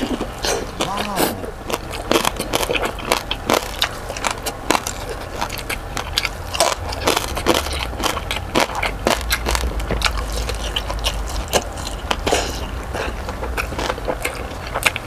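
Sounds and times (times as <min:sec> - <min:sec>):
close crunchy chewing: 0:00.0 - 0:15.0.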